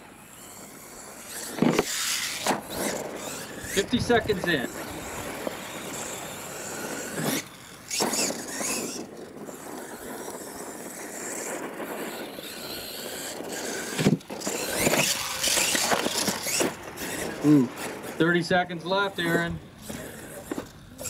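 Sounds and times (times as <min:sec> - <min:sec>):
rc truck motor whining: 0:00.0 - 0:21.0
tyres scrabbling on dirt: 0:00.2 - 0:21.0.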